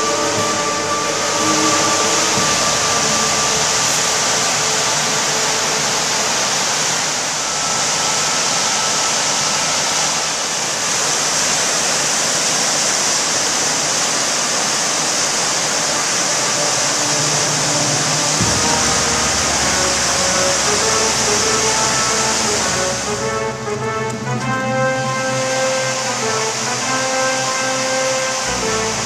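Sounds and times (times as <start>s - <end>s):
river rapids rushing over rocks: 0.0s - 29.0s.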